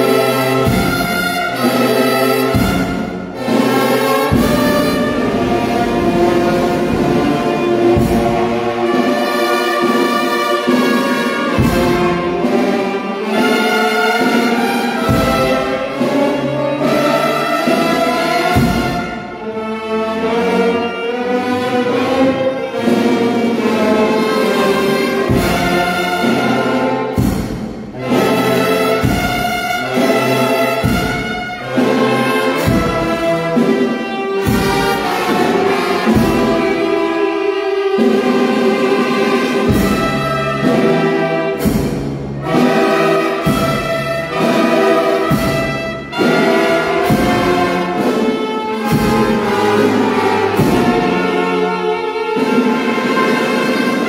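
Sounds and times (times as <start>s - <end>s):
brass band playing a march: 0.0s - 54.0s.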